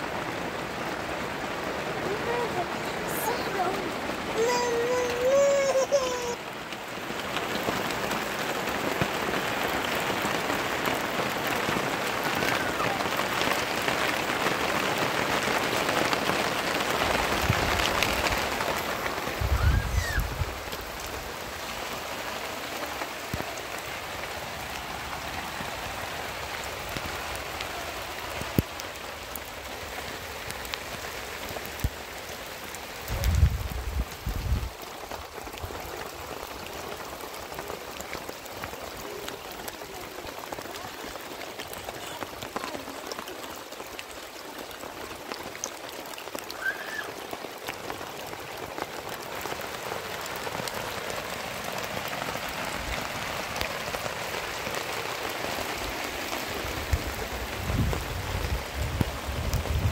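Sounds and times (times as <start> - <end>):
heavy rain on a tent: 0.0 - 59.9.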